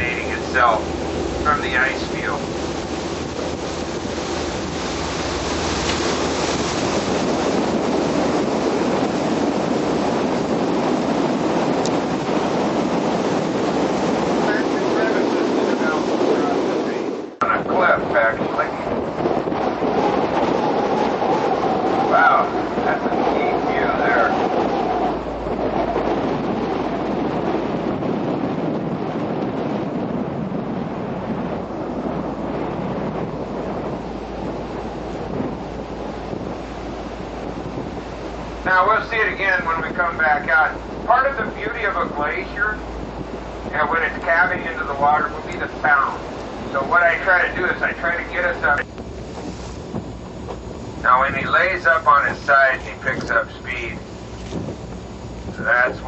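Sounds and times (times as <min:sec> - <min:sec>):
water washing along boat: 0:00.0 - 0:56.0
wind on microphone: 0:00.0 - 0:56.0.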